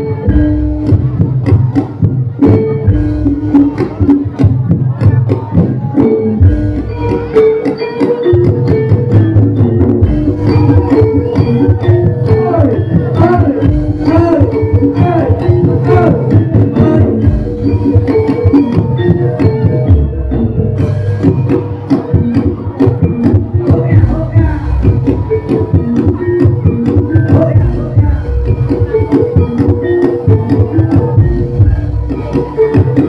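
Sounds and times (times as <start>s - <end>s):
drums beating brisk rhythm: 0.0s - 33.0s
gamelan ensemble playing: 0.0s - 33.0s
sliding melodic line: 5.7s - 33.0s.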